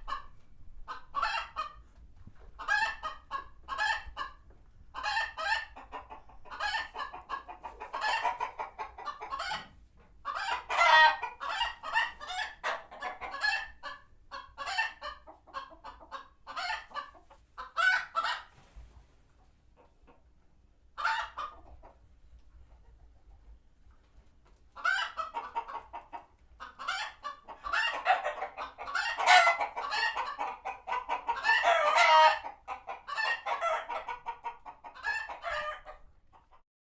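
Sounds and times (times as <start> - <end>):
chickens clucking and squawking: 0.0 - 36.6.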